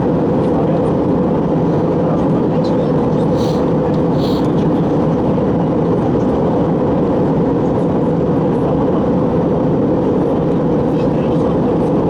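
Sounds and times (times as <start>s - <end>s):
airliner cabin engine and airflow noise: 0.0s - 12.0s.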